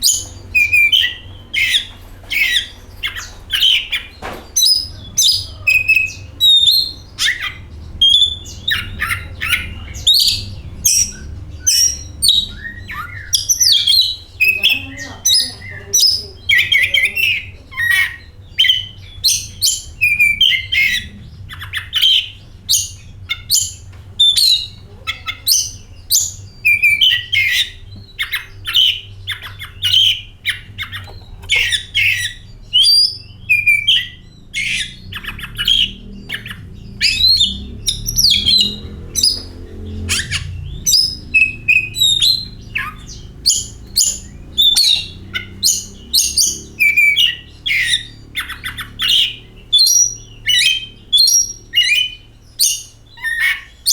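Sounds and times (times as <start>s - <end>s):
bird singing whistles: 0.0s - 53.9s
faint low hum: 0.0s - 53.9s.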